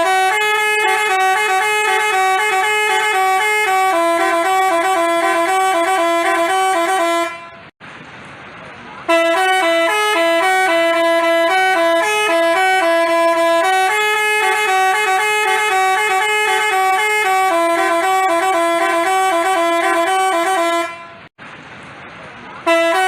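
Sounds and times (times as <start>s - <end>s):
multi-tone bus horn melody: 0.0s - 7.8s, 9.0s - 21.3s, 22.6s - 23.0s.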